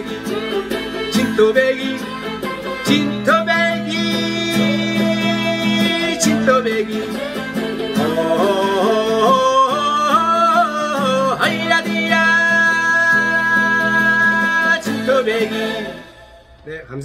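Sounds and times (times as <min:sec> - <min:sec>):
man singing: 0:00.0 - 0:16.3
acoustic guitar strumming: 0:00.0 - 0:16.7.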